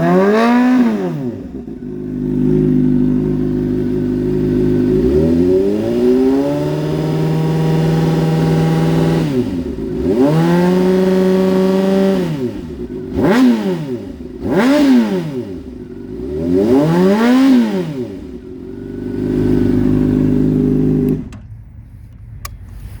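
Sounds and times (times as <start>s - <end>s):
motorcycle engine revving: 0.0s - 21.5s.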